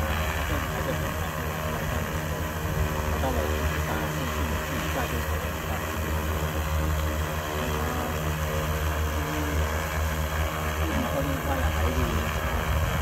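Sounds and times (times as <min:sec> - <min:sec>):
drone hovering hum: 0:00.0 - 0:13.0.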